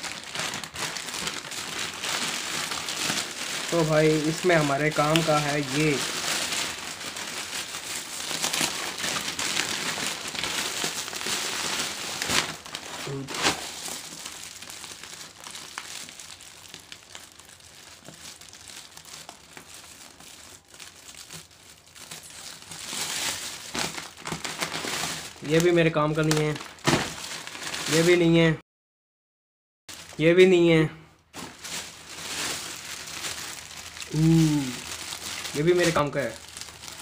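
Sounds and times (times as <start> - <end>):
plastic bags crinkling and rustling: 0.0 - 28.5, 29.9 - 37.0.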